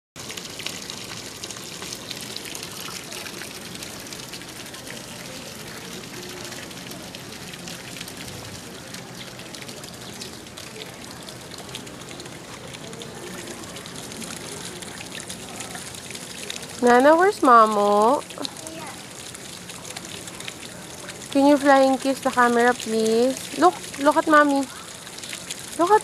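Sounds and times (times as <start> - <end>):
pond water trickling and splashing: 0.2 - 26.0.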